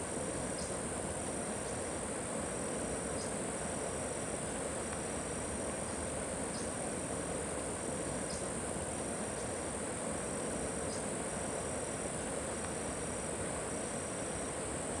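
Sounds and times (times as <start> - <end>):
continuous high hiss: 0.0 - 15.0.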